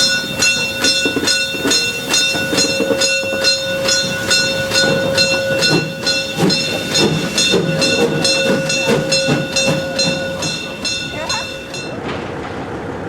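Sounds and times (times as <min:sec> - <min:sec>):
steady held tone: 0:00.0 - 0:11.9
steam locomotive chuffing: 0:00.0 - 0:12.1.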